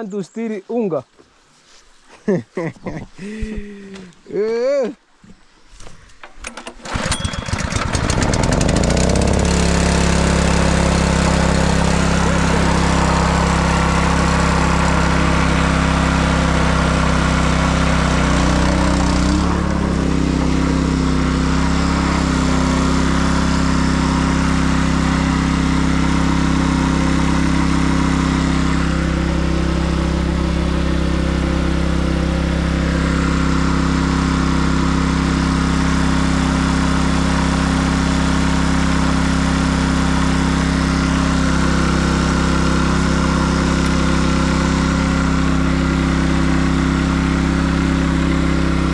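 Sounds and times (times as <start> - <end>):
water pump engine running: 6.8 - 48.9.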